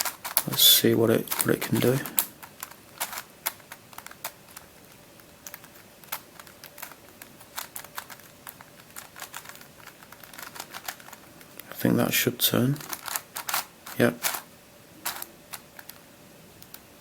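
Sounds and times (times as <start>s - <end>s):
plastic puzzle clicking: 0.0s - 11.7s, 12.7s - 16.0s, 16.6s - 16.9s.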